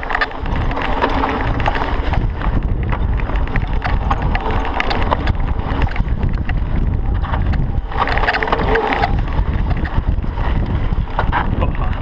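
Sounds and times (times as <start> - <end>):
bike rattling: 0.0 - 12.0
tyres crunching over stones: 0.0 - 12.0
wind buffeting microphone: 0.0 - 12.0.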